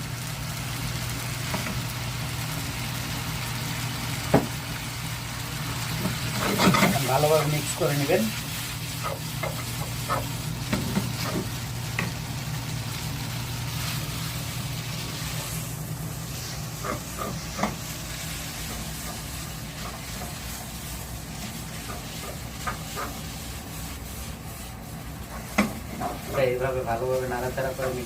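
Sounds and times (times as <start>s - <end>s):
noodles sizzling in a pan: 0.0s - 28.0s
steady low hum: 0.0s - 28.0s.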